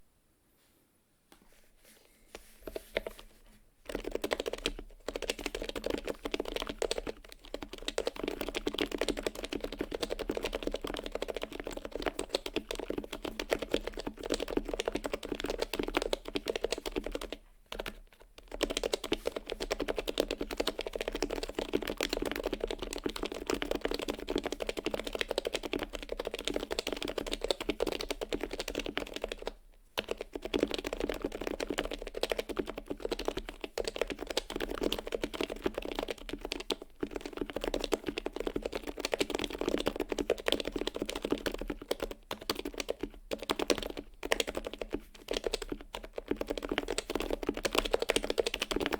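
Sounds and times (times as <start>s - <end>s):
fast typing on keyboard: 3.9s - 48.9s.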